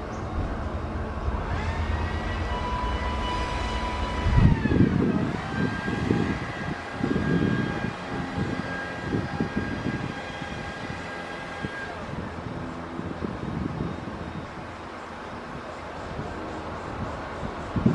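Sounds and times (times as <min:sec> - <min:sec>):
diesel locomotive engine rumbling: 0:00.0 - 0:17.9
high whine: 0:00.0 - 0:17.9.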